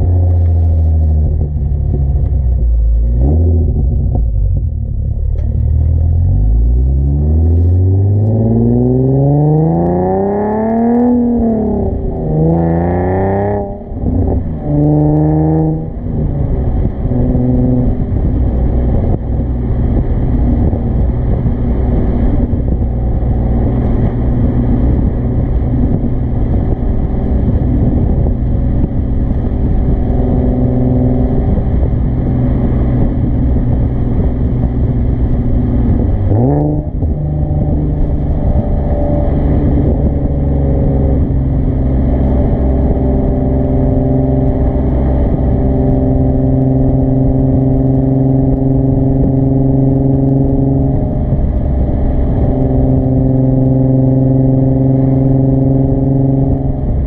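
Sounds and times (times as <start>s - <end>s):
car exhaust revving: 0.0s - 57.0s
road noise: 0.0s - 57.0s.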